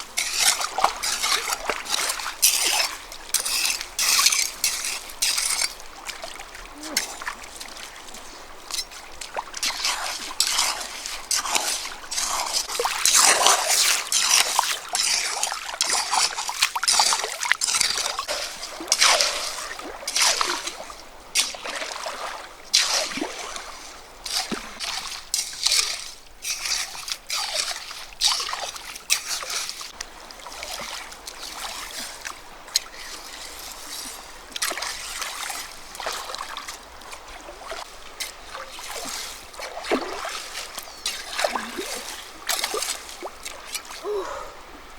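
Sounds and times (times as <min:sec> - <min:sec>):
water splashing and sloshing: 0:00.0 - 0:44.9
water trickling: 0:00.0 - 0:44.9.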